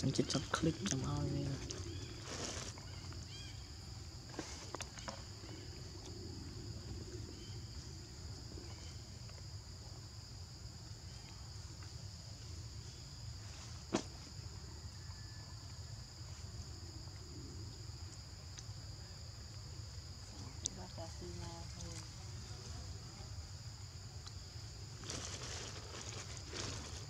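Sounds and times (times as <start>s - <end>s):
shrill insect chorus: 0.0s - 27.0s.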